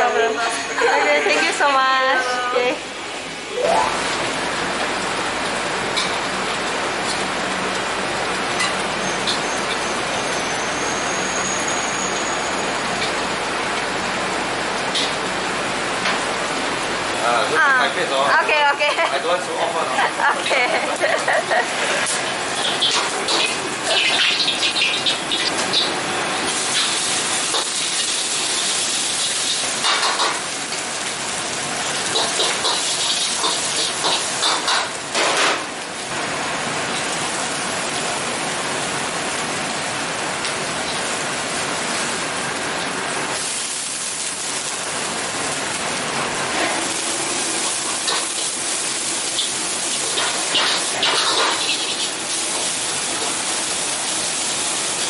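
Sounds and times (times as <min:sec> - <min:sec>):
noodles sizzling in a wok: 0:00.1 - 0:17.5, 0:21.6 - 0:55.0.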